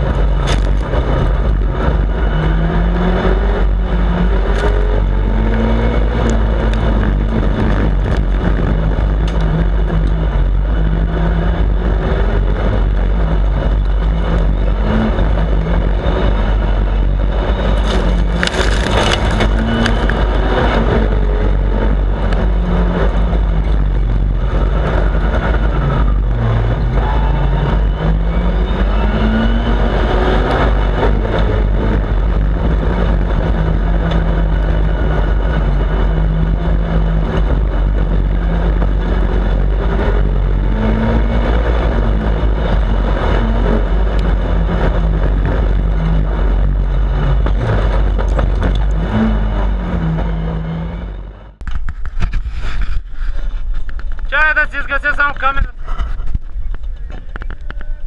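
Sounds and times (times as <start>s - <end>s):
buggy engine revving: 0.0s - 58.0s
heavy low rumble: 0.0s - 58.0s.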